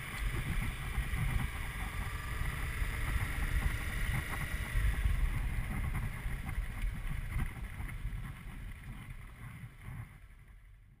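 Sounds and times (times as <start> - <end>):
motorcycle engine running: 0.0 - 10.8
wind rumbling on microphone: 0.0 - 11.0.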